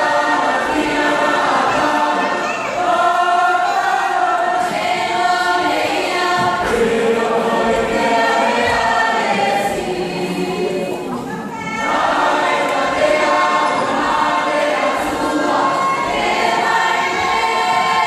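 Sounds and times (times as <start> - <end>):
group singing in chorus: 0.0 - 18.0.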